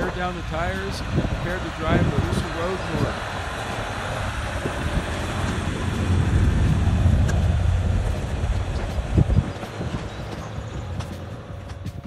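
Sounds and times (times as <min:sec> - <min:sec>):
diesel engine driving past: 0:00.0 - 0:12.0.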